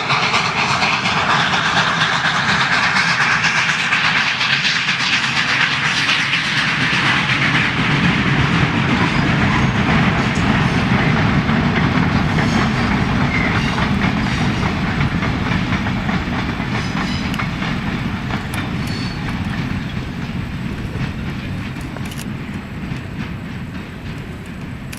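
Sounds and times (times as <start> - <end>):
train wheels clattering over rail joints: 0.0 - 24.9.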